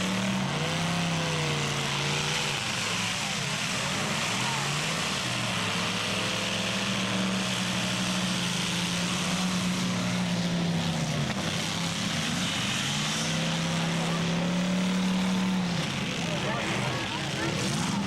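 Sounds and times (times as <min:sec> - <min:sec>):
car engine revving high: 0:00.0 - 0:18.0
engine noise: 0:00.0 - 0:18.0.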